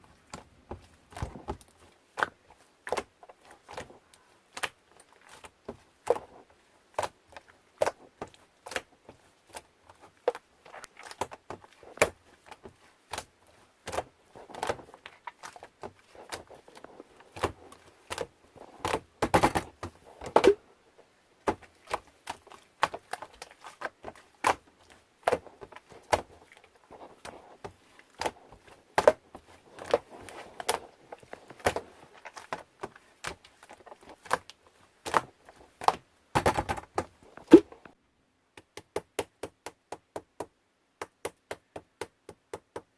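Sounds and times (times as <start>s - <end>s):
soft rustling: 0.0s - 38.0s.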